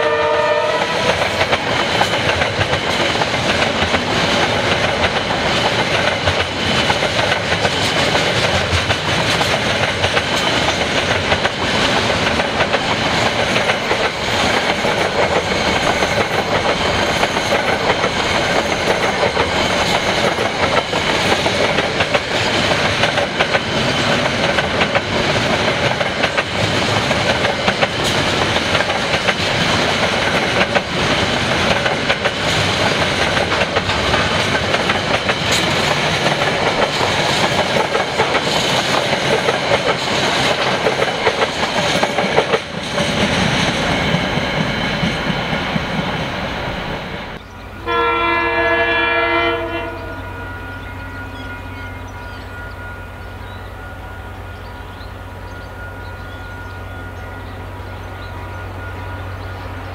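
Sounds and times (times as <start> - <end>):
train wheels rumbling and clattering: 0.0 - 53.7.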